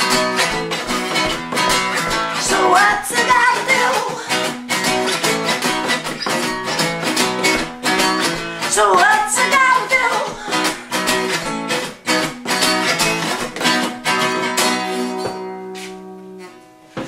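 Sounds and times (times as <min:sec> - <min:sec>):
acoustic guitar strummed hard: 0:00.0 - 0:17.0.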